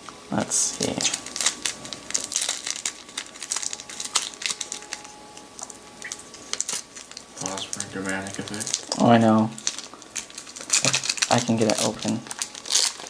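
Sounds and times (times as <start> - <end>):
foil wrapper crinkling: 0.7 - 13.0.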